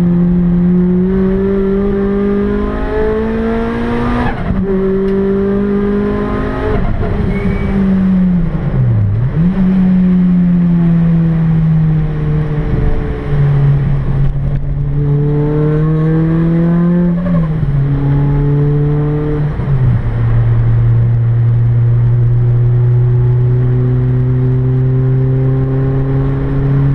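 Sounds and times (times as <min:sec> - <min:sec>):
car engine revving through gears: 0:00.0 - 0:19.8, 0:21.4 - 0:26.9.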